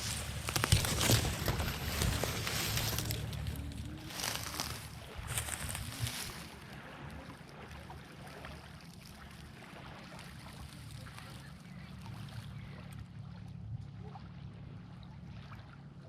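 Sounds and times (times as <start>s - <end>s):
distant motor hum: 0.0s - 15.4s
water lapping on shore: 0.0s - 16.0s.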